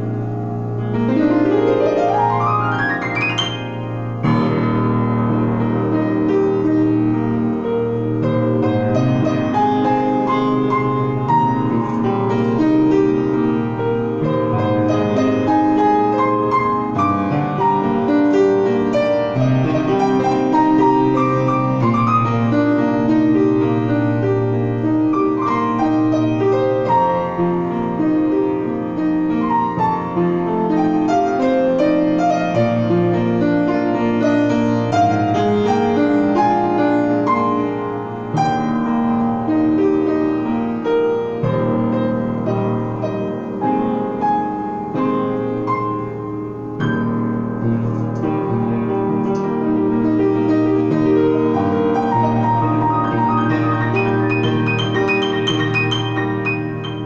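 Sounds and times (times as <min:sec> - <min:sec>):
grand piano solo: 0:00.0 - 0:57.0.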